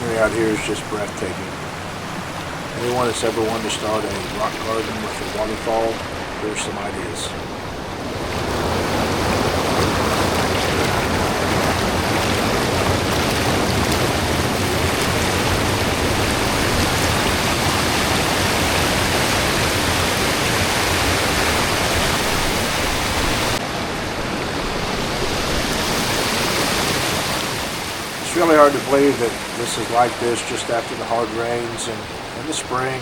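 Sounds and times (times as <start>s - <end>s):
creek rushing over rocks: 0.0s - 33.0s.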